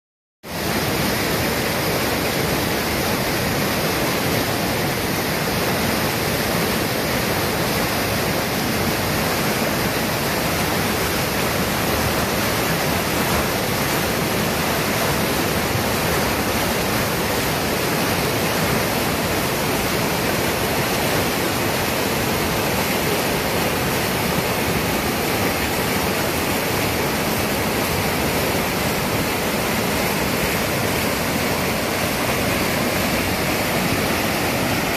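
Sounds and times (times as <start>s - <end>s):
river rapids rushing over boulders: 0.5s - 34.9s.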